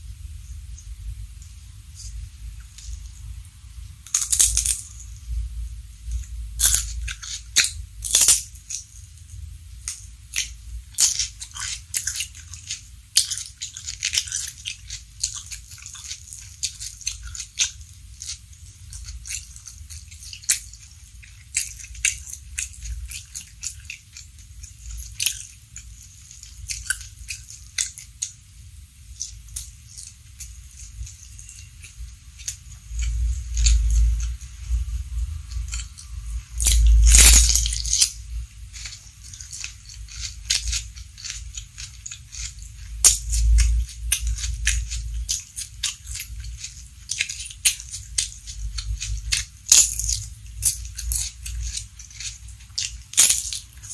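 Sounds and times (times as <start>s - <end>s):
crunching raw vegetables: 0.0s - 53.9s.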